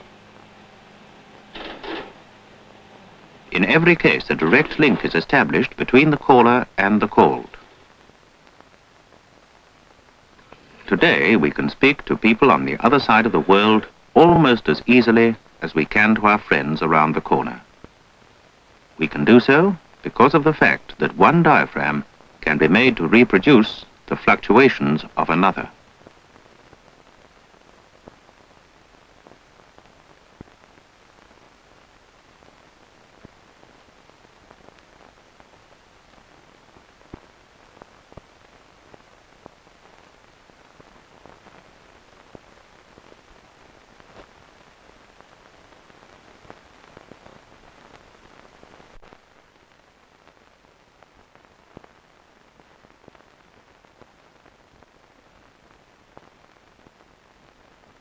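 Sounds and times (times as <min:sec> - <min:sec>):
film soundtrack surface hiss: 0:00.0 - 0:58.0.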